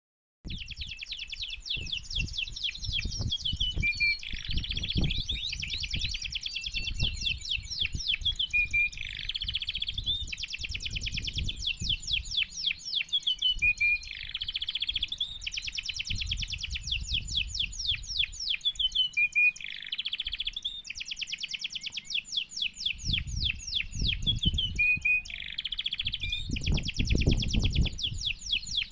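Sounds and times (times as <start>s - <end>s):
canary singing trills: 0.5s - 28.9s.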